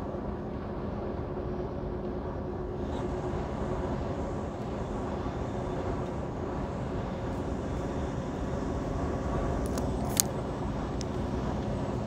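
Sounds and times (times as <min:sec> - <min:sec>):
truck engine drone and road noise: 0:00.0 - 0:12.0.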